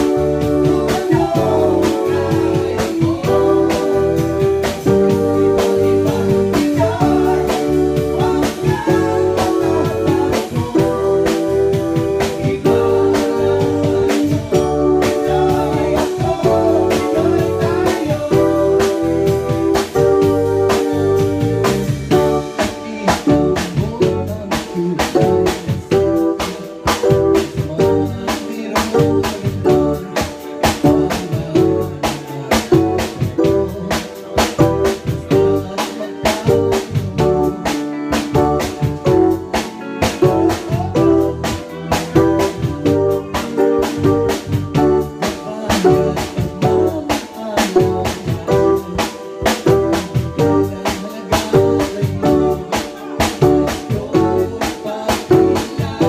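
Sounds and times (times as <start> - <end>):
electric bass: 0.0 - 56.0
electric guitar: 0.0 - 56.0
steady drum beat: 0.0 - 56.0.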